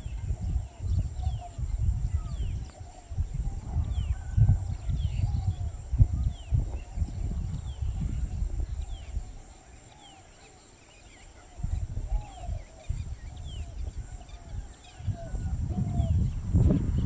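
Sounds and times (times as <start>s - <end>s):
low wavering bird calls: 0.0s - 17.0s.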